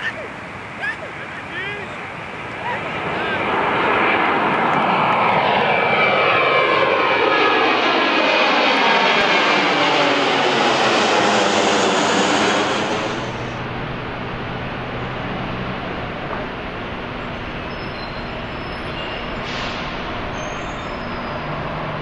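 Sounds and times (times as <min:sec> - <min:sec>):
jet airliner passing overhead: 0:00.0 - 0:22.0.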